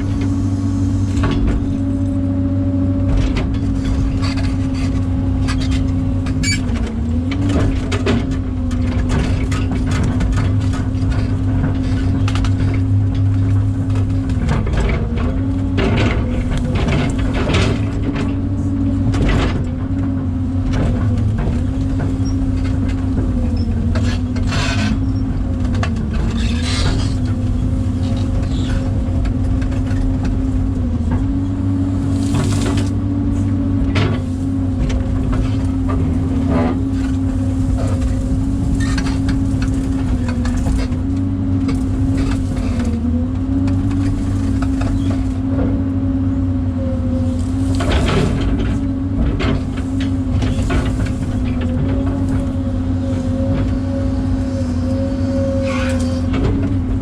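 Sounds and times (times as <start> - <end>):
excavator diesel engine running: 0.0 - 57.0
machine clanks and knocks: 3.0 - 45.8, 47.5 - 53.9.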